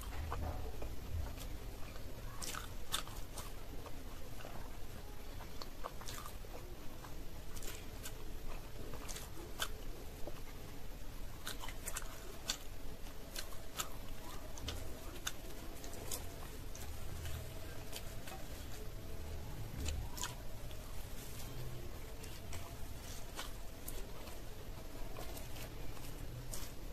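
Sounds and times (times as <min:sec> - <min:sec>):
chewing fried bread: 0:00.0 - 0:26.9.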